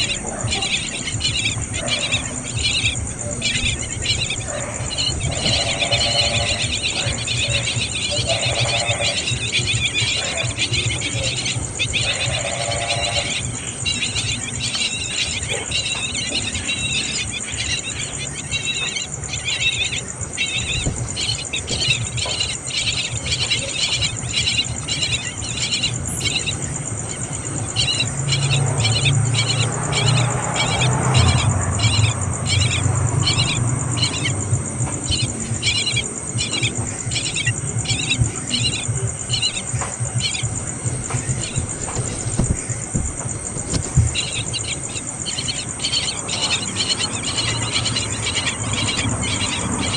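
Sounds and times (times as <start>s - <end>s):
small bird chirping: 0.0s - 49.9s
steady low rumble: 0.0s - 49.9s.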